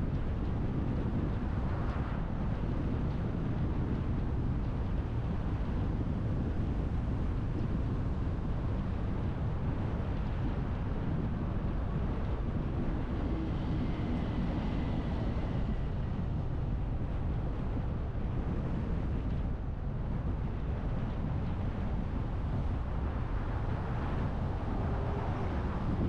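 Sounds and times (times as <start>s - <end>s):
tyre and wind noise: 0.0s - 26.0s.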